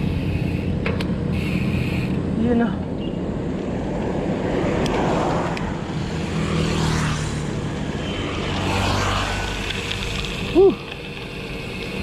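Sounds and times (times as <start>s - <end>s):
low engine hum: 0.0s - 12.0s
vehicles passing: 0.0s - 12.0s.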